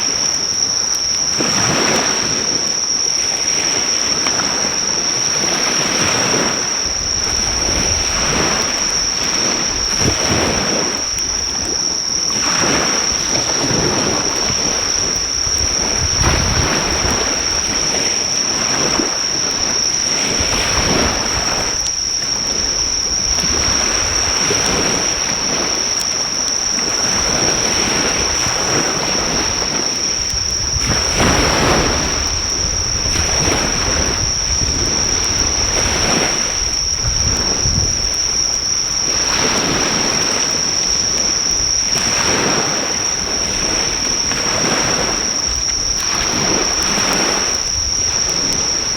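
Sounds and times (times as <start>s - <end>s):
high-pitched insect trill: 0.0s - 48.9s
sea waves breaking on shore: 0.0s - 48.9s.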